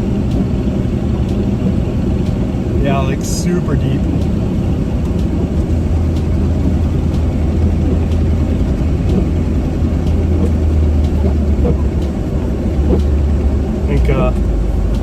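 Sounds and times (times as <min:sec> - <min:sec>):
car engine droning under load: 0:00.0 - 0:15.0.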